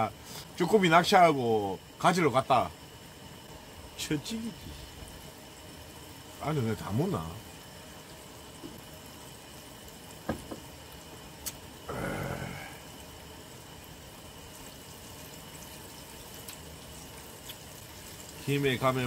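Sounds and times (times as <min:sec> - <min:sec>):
hot oil hissing: 0:00.0 - 0:19.0.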